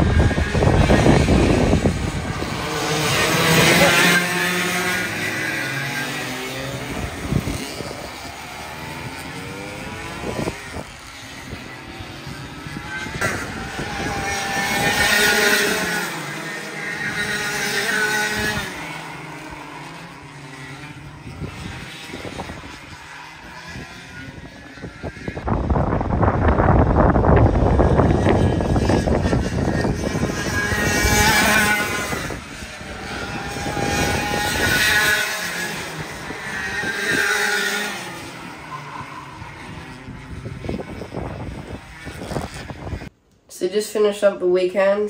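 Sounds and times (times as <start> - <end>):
kart engines revving: 0.0 - 43.2.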